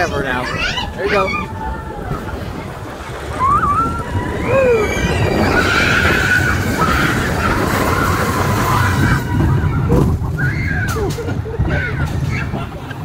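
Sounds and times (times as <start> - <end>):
roller coaster rumble and clatter: 0.0 - 13.0.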